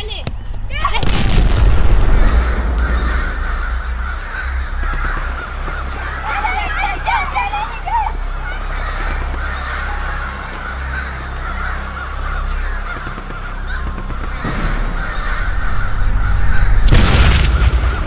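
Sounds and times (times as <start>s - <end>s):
steady low hum: 0.3s - 18.0s
crows cawing: 1.6s - 18.0s.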